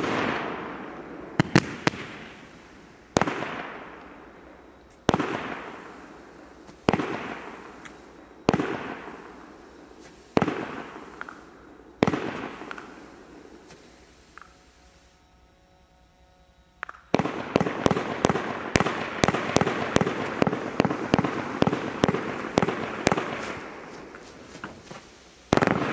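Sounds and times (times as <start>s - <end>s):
firework bangs: 0.0s - 4.2s, 5.0s - 14.6s, 17.1s - 25.9s
firework crackle: 0.0s - 15.2s, 16.9s - 25.9s.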